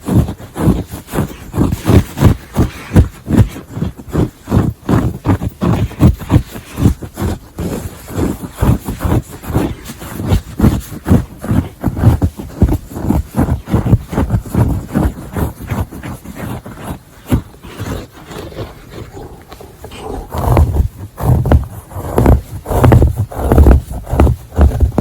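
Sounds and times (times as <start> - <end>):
scratching on fabric: 0.0 - 25.0.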